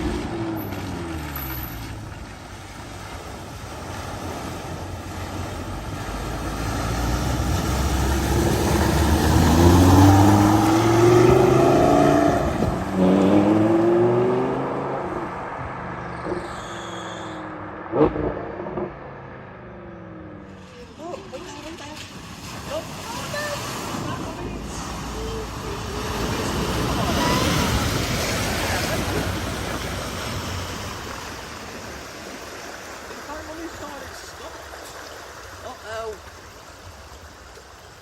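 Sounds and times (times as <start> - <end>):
car engine: 0.0 - 37.2
water rushing: 0.0 - 38.0.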